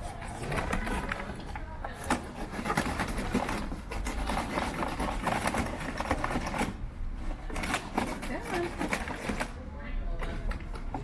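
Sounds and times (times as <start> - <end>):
stiff paper crackling and rustling: 0.0 - 9.6.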